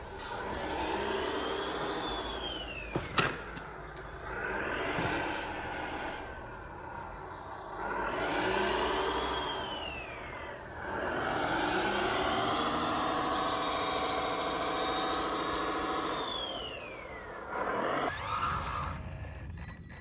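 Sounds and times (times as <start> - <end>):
electric motor whine: 0.0 - 19.8.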